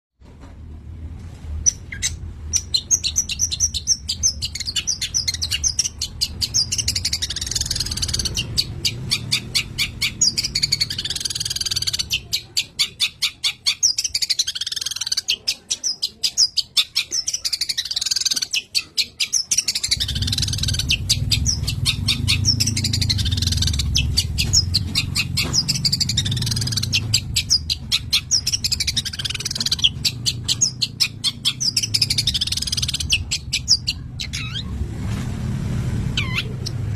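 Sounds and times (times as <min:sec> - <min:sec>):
low steady rumble: 0:00.2 - 0:13.6, 0:19.8 - 0:36.9
bird singing fast song: 0:01.6 - 0:34.7.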